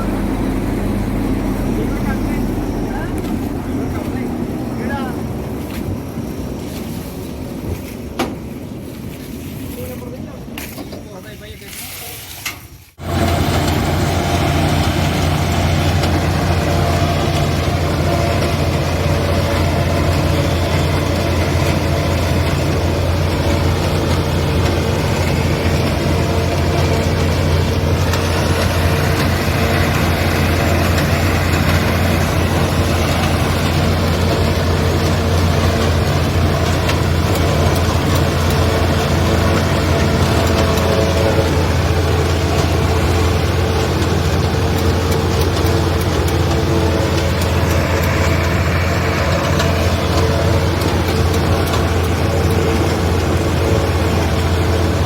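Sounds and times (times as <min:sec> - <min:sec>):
heavy farm machinery engine droning: 0:00.0 - 0:11.8, 0:12.9 - 0:55.0.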